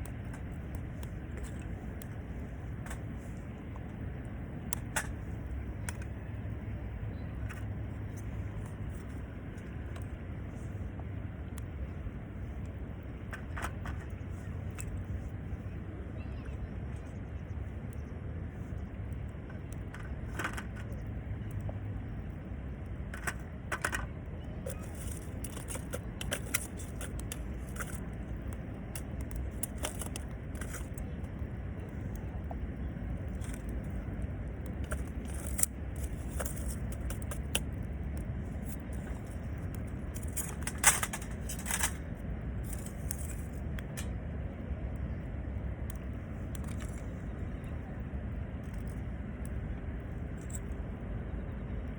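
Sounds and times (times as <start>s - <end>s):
campfire crackling and popping: 0.0s - 16.1s, 17.5s - 51.0s.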